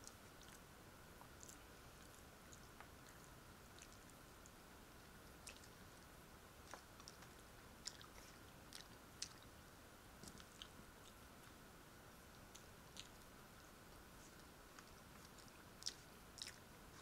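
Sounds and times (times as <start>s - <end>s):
faint chewing: 0.0s - 9.6s, 10.2s - 17.0s.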